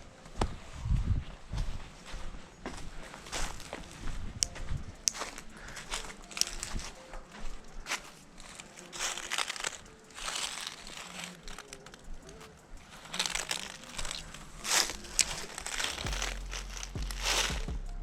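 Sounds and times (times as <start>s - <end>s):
rustling and crunching: 3.2s - 17.7s.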